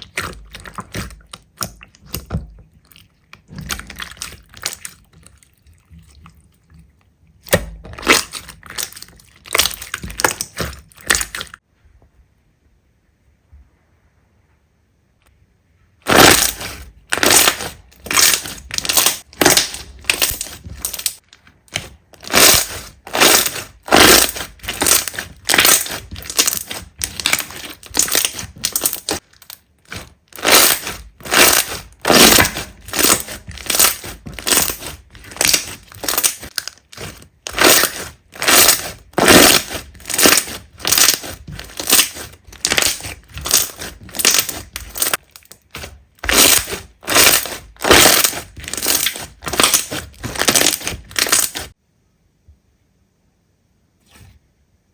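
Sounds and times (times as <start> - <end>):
slime squeezed and crackling: 0.0 - 6.3, 7.4 - 11.6, 16.0 - 51.8.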